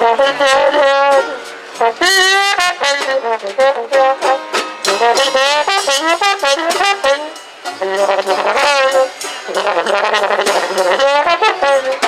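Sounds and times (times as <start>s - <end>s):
banjo strumming: 0.0s - 12.0s
muted trombone jazz phrase: 0.0s - 12.0s.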